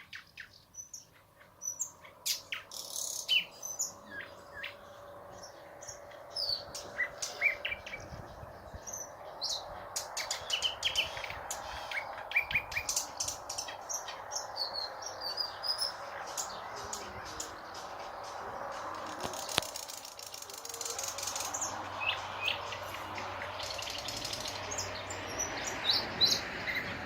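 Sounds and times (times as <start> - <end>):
nightingale singing: 0.0 - 27.0.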